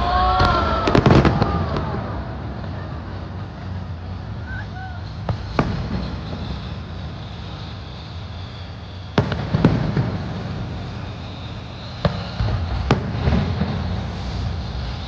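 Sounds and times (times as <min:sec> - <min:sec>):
fireworks bangs and crackling: 0:00.0 - 0:15.0
low background rumble: 0:00.0 - 0:15.0.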